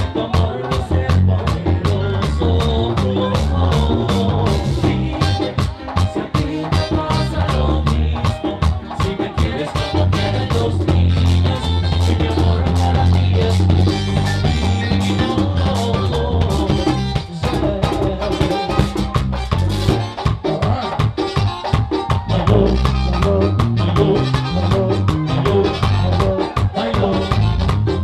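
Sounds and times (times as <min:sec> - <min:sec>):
bass and guitars playing: 0:00.0 - 0:28.0
scraped percussion beat: 0:00.0 - 0:28.0.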